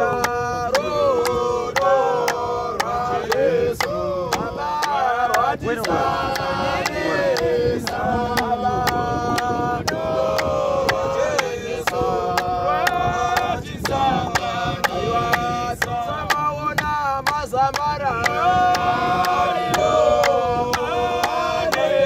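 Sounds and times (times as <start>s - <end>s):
hand claps: 0.0s - 22.0s
male vocal group singing: 0.0s - 22.0s.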